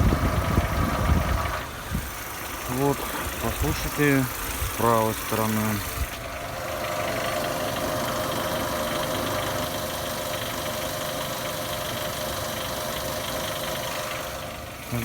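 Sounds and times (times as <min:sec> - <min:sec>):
car engine idling: 0:00.0 - 0:15.0
engine rattle: 0:00.0 - 0:15.0.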